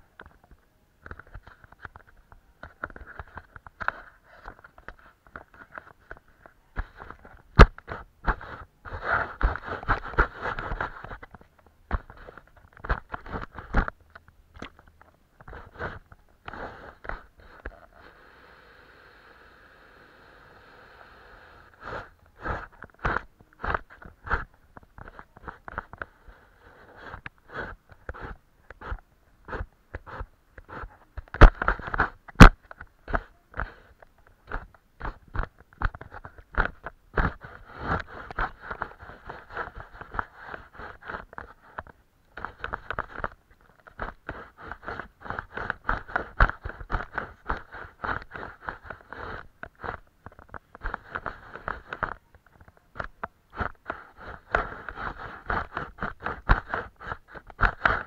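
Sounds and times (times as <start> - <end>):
paintbrush scraping over paper: 1.0 - 14.0, 15.4 - 18.2, 21.7 - 32.2, 32.8 - 58.0.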